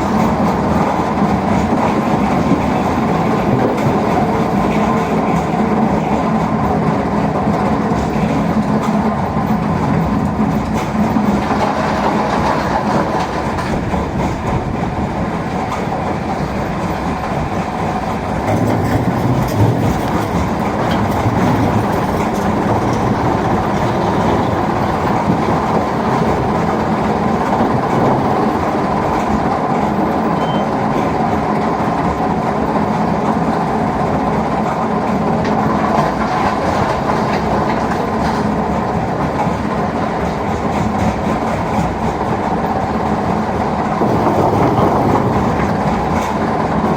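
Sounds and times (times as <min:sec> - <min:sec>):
heavy machinery rumbling and rattling: 0:00.0 - 0:46.9.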